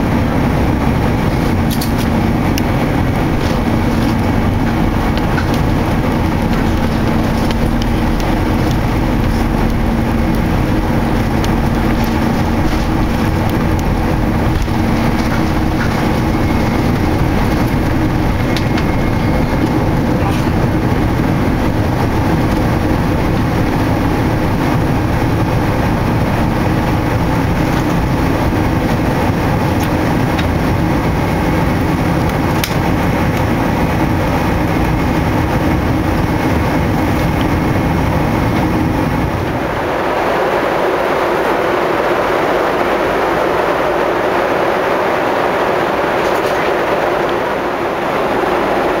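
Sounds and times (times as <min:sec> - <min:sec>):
jet engines rumbling in cabin: 0:00.0 - 0:49.0.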